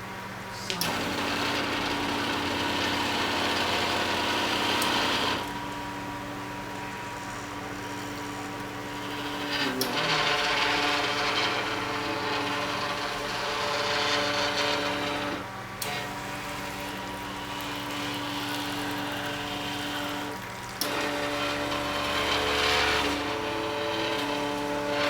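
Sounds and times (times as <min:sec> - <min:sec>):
machine motor whine: 0:00.0 - 0:25.0.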